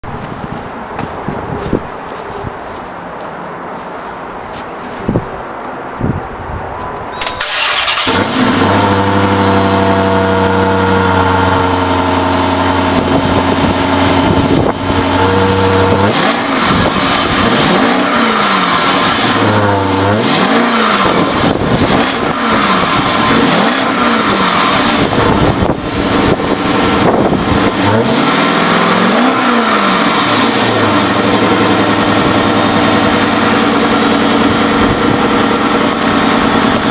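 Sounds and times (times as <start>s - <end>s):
car engine starting: 7.1s - 36.9s
car engine idling: 7.2s - 36.9s
car engine revving: 7.3s - 36.9s.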